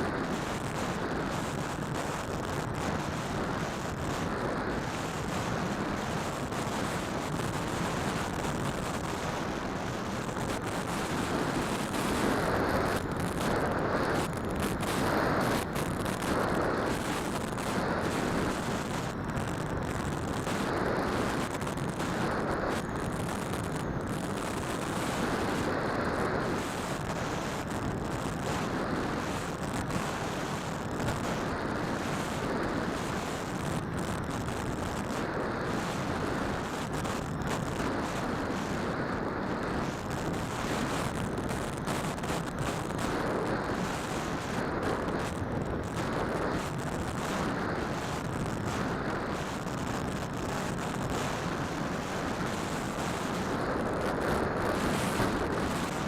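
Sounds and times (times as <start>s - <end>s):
drone motors and propellers: 0.0s - 56.0s
wind on microphone: 0.0s - 56.0s.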